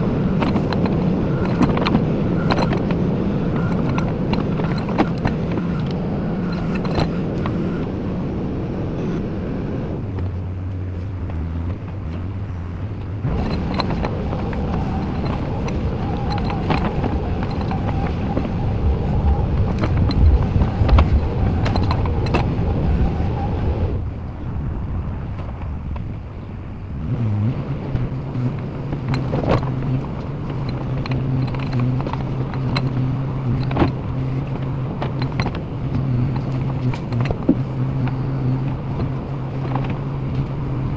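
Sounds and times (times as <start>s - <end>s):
diesel engine under load: 0.0s - 40.9s
steady whine: 0.0s - 40.9s.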